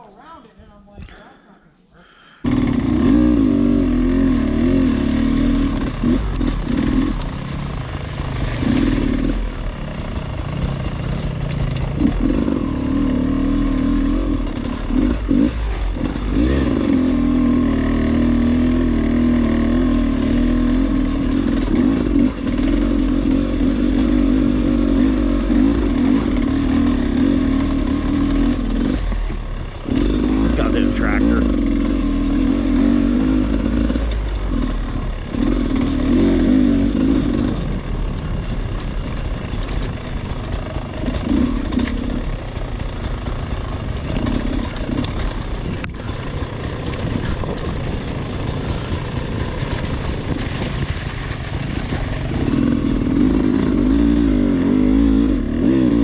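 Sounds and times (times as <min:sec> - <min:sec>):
dirt bike engine: 0:02.0 - 0:56.0.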